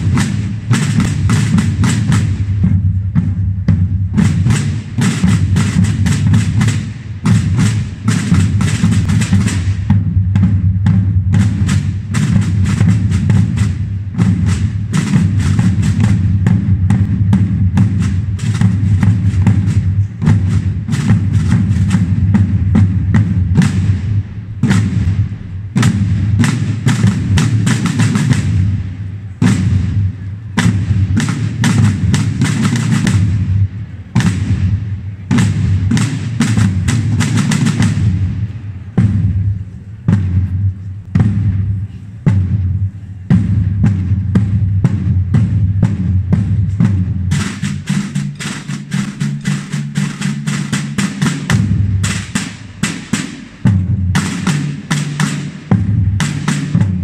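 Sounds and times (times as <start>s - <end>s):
side drums playing rolls: 0.0s - 57.0s.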